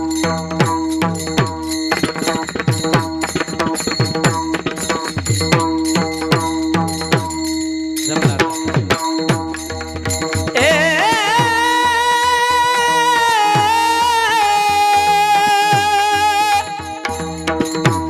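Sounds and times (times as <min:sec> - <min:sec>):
high ringing cymbals: 0:00.0 - 0:15.8.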